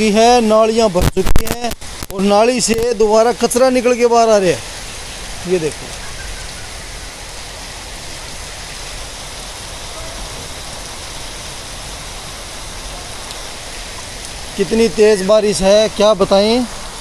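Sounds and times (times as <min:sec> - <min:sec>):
heavy rain on standing water: 0:00.0 - 0:17.0.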